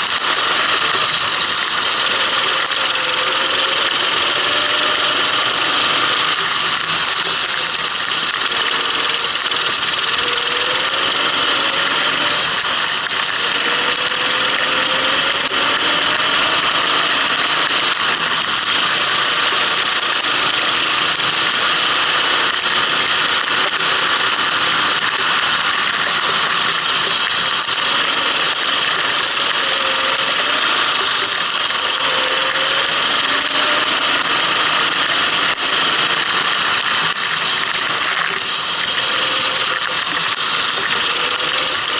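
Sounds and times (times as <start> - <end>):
kart engine revving: 0.0 - 41.9
wind and tyre noise: 0.0 - 41.9.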